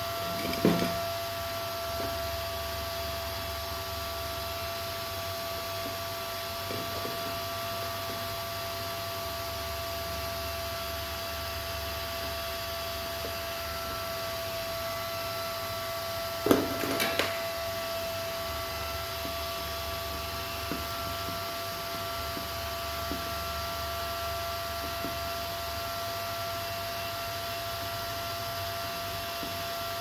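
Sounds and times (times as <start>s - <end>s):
thin constant whine: 0.0s - 30.0s.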